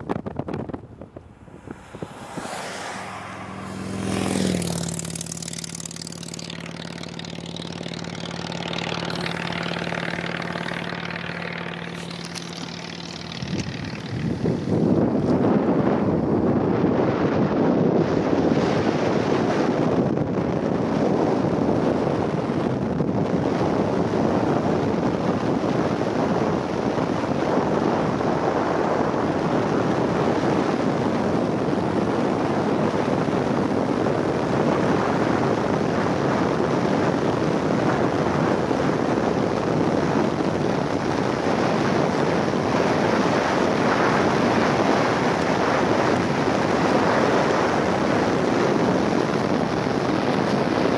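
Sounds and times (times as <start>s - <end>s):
car road noise at speed: 0.0s - 50.9s
wind on microphone: 0.0s - 50.9s.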